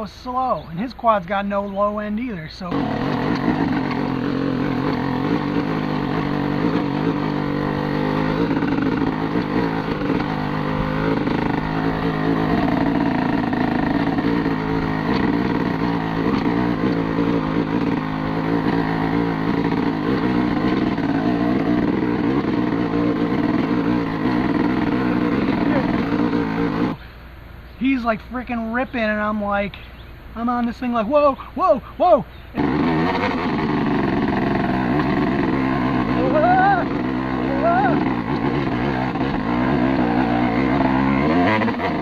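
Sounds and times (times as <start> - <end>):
two-stroke engine under load: 0.0 - 27.1, 30.7 - 42.0.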